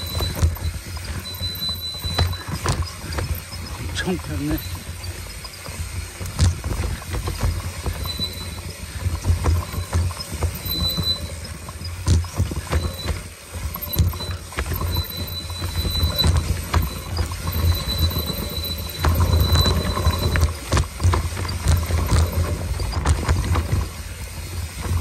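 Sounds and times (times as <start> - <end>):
bike knocks and rattles: 0.0 - 25.0
faint high whine: 0.0 - 25.0.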